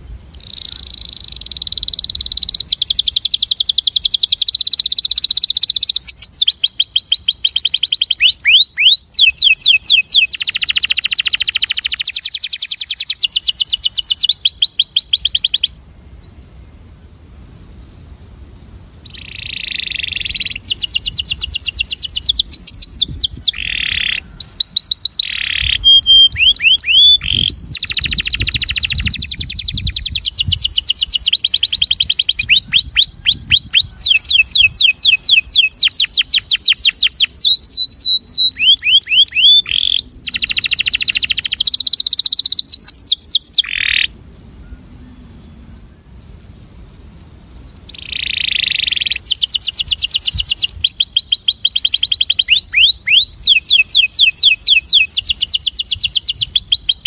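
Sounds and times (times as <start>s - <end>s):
canary singing trills: 0.0s - 16.4s, 19.0s - 57.0s.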